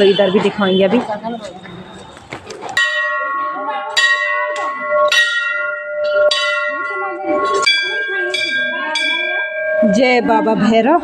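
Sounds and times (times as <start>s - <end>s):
brass bell ringing: 0.0s - 1.0s, 2.8s - 11.0s.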